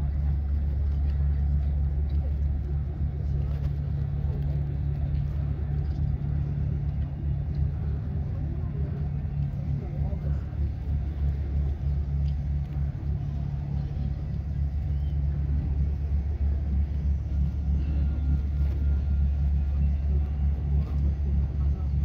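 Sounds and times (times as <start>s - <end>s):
boat diesel engines rumbling: 0.0s - 22.0s.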